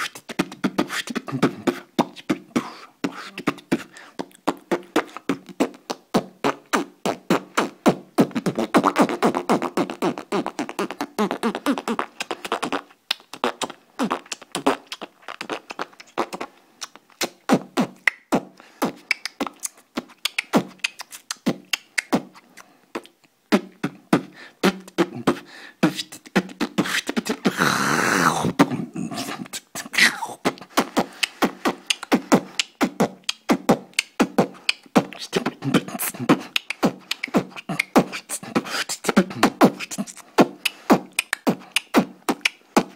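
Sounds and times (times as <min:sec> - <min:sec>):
person beatboxing: 0:00.0 - 0:42.9.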